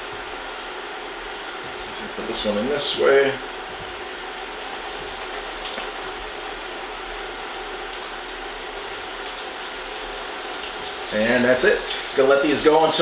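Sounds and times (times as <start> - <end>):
fish fillets sizzling in hot oil: 0.0 - 13.0.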